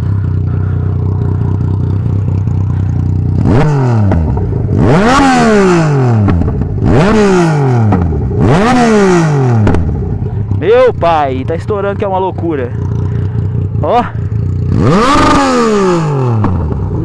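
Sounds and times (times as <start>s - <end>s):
exhaust popping: 0.0s - 17.0s
motorcycle engine revving: 0.0s - 17.0s.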